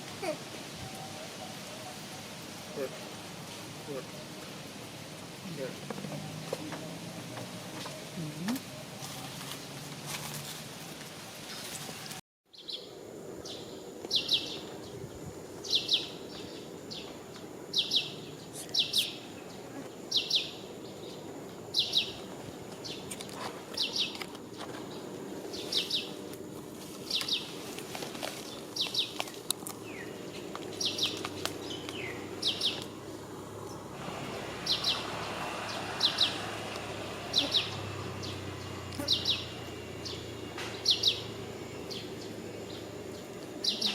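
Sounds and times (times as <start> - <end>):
outdoor background hum: 0.0 - 43.9.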